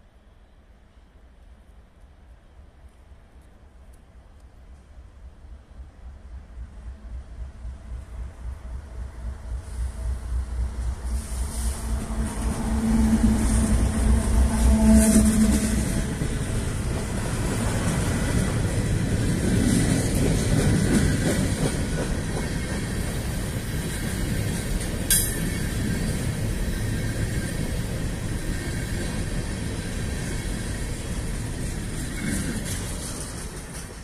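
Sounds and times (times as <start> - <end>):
train rail cars rumbling: 5.3 - 34.0.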